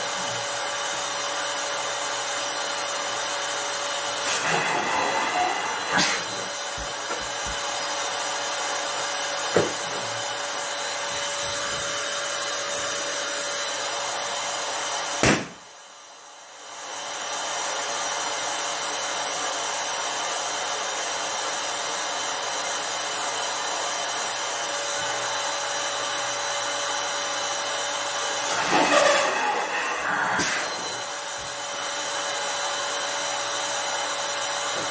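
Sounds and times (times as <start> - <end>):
balloon inflator motor whir: 0.0 - 34.9.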